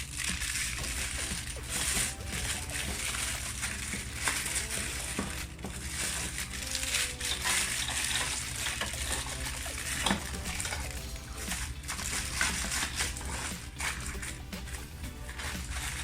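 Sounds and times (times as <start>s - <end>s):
packaging rustling and clicks: 0.0s - 14.3s
steady low hum: 0.0s - 16.0s.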